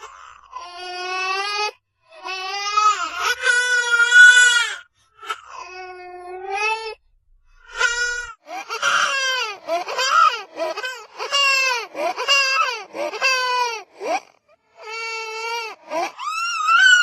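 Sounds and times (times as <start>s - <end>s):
small child crying: 0.0s - 7.0s, 7.7s - 17.0s.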